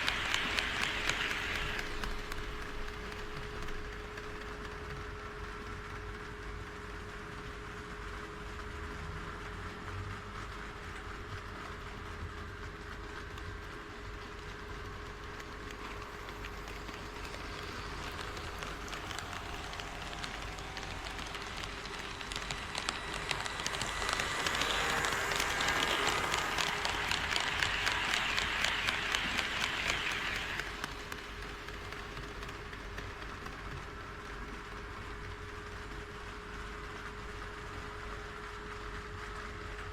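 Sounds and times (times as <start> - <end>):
model train wheels clicking: 0.0 - 7.6, 12.6 - 37.3.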